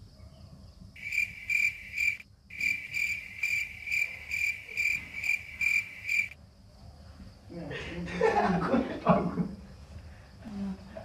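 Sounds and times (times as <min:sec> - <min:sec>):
cricket chirps: 0:00.0 - 0:11.0.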